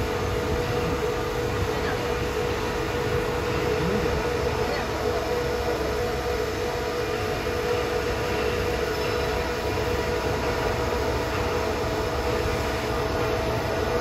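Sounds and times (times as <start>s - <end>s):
steady machinery hum: 0.0s - 14.0s.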